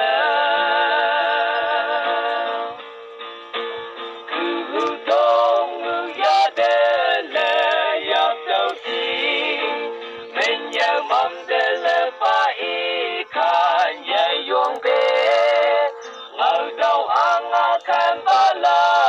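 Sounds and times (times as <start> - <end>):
man singing: 0.0 - 2.8, 4.4 - 19.0
backing music: 0.0 - 19.0.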